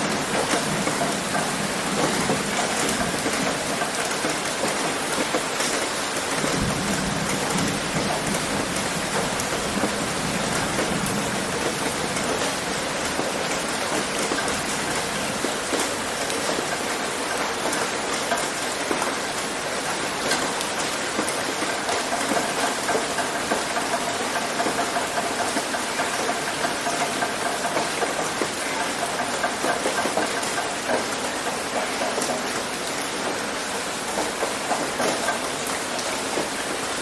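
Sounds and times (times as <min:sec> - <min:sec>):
heavy rain on a roof: 0:00.0 - 0:37.0.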